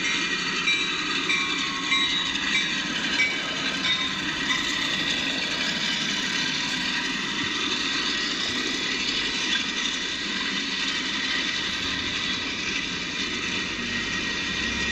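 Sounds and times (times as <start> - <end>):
train wheels rolling on rail: 0.0 - 14.9.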